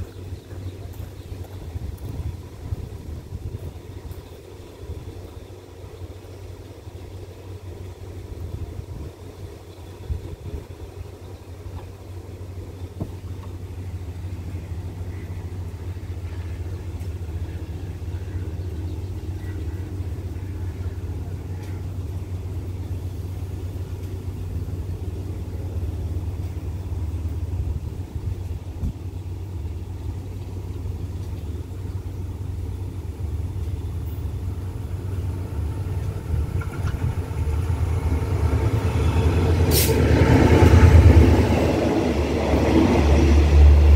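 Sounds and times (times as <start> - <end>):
diesel locomotive engine rumble: 0.0 - 43.9
train approaching: 0.0 - 43.9.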